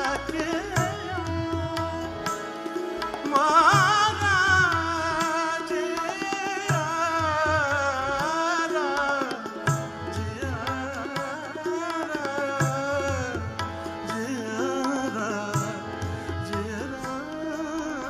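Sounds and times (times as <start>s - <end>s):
man singing: 0.0s - 18.0s
tabla strokes: 0.0s - 18.0s.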